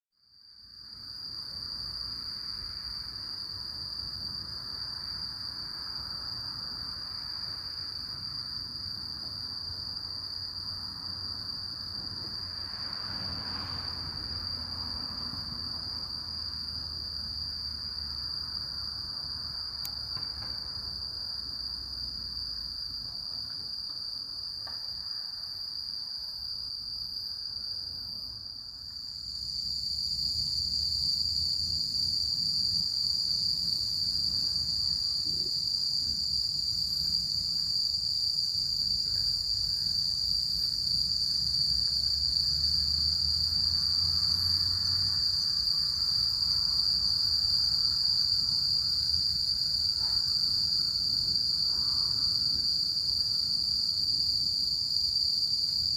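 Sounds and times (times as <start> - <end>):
crickets chirping: 0.2 - 55.9.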